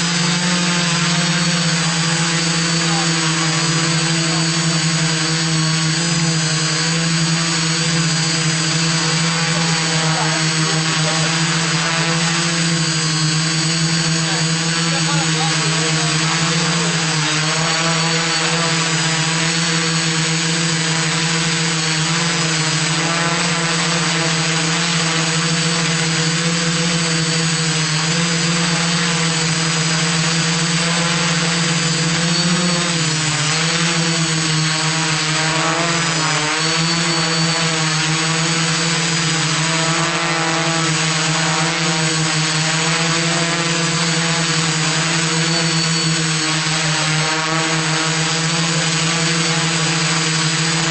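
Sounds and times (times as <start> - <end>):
quadcopter propellers droning: 0.0 - 50.9.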